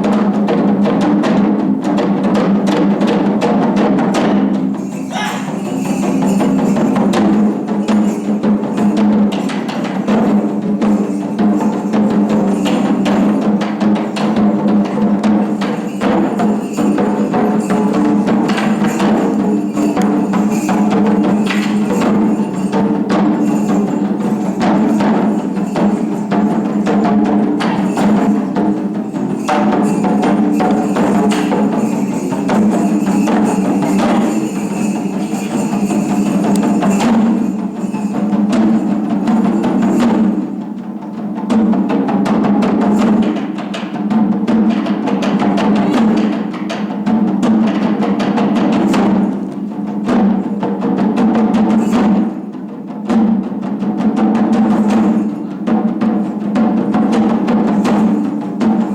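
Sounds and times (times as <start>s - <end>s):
drum ensemble playing: 0.0s - 58.9s.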